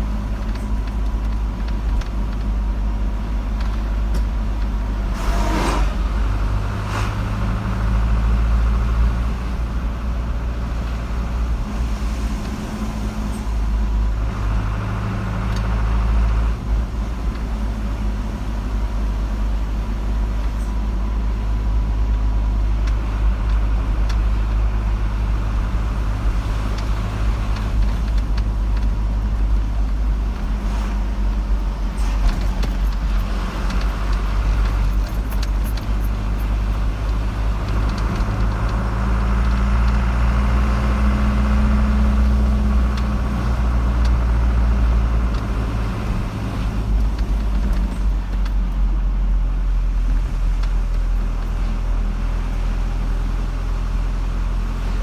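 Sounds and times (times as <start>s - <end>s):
car driving on paved road: 0.0s - 55.0s.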